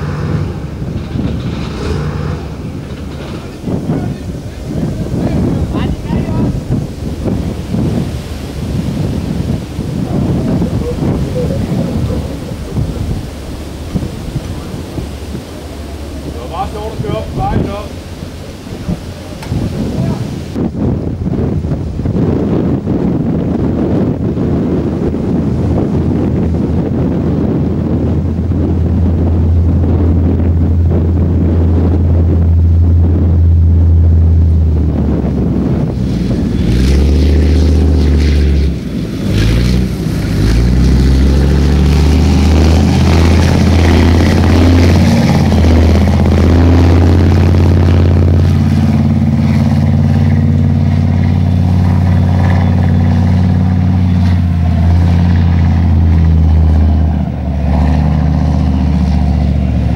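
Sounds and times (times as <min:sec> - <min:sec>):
tank engine drone: 0:00.0 - 0:59.9.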